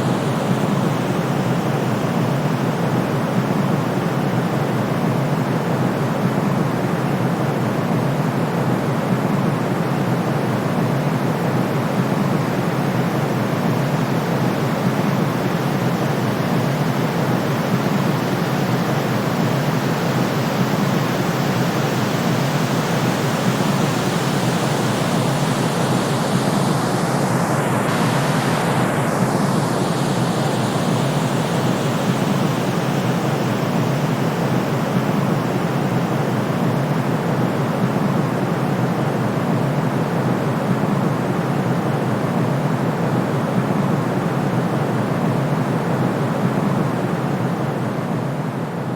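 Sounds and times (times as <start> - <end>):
low white noise: 0.0 - 48.9.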